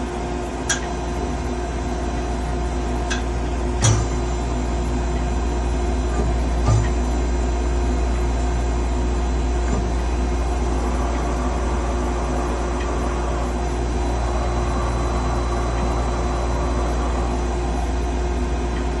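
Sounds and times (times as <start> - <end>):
machine hum with steady tones: 0.0 - 19.0.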